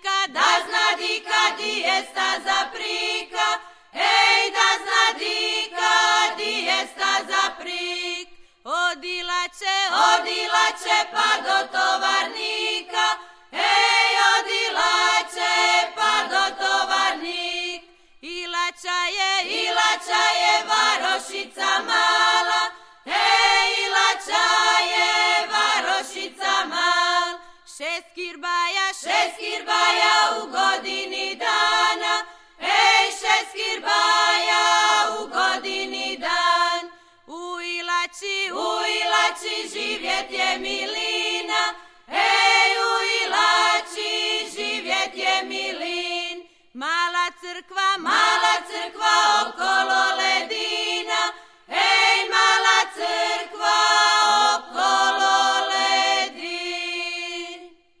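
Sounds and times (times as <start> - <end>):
women singing in harmony: 0.0 - 58.0.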